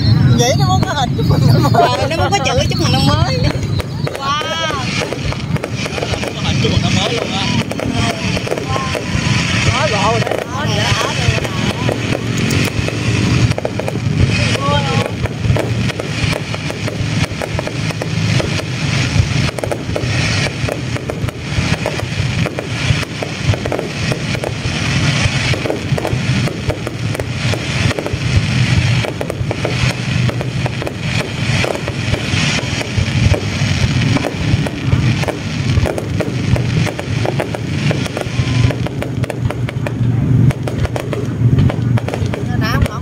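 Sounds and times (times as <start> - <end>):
fireworks bursts and bangs: 0.0 - 43.0
fireworks crackling: 0.0 - 43.0.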